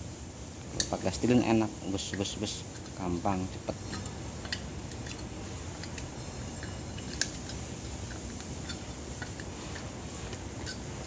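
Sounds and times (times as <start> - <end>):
steady low hum: 0.0 - 11.0
small metal parts clicking: 2.0 - 11.0.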